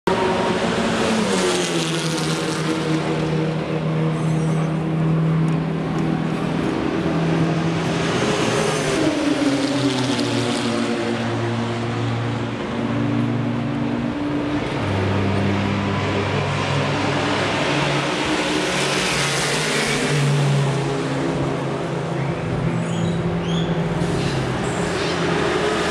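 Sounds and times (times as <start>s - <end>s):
racing cars passing by: 0.1s - 25.9s
steady engine drone: 0.1s - 25.9s.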